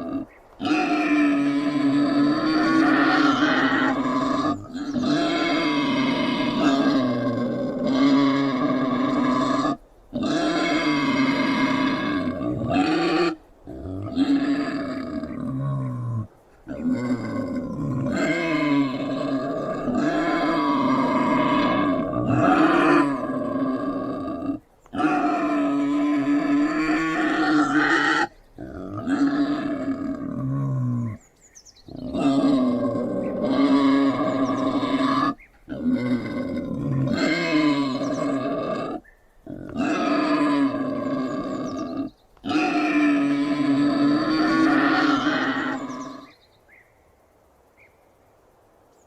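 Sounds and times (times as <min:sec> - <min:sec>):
wild boar growling: 0:00.0 - 0:31.2, 0:31.8 - 0:46.3.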